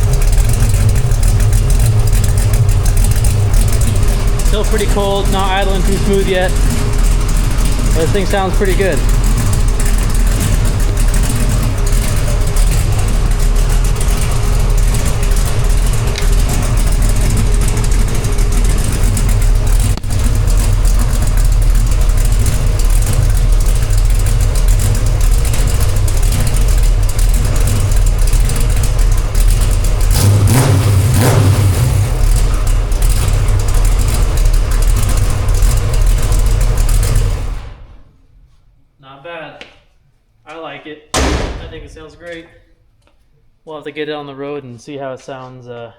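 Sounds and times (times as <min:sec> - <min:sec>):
vee eight engine idling rumble: 0:00.0 - 0:38.0.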